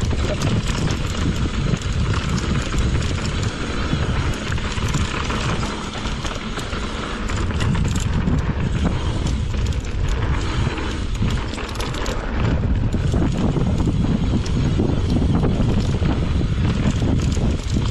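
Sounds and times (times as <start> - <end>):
bike rattling over rough ground: 0.0 - 17.9
wind rushing over microphone: 0.0 - 17.9.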